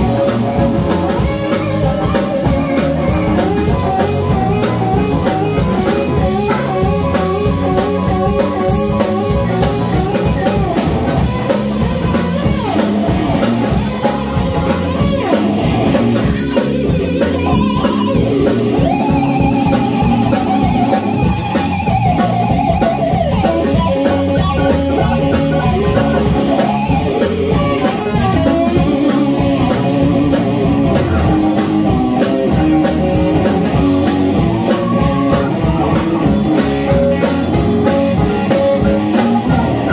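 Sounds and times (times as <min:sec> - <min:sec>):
drum kit beat: 0:00.0 - 0:39.9
electric bass: 0:00.0 - 0:39.9
electric guitar lead: 0:00.0 - 0:39.9
keyboard: 0:00.0 - 0:39.9.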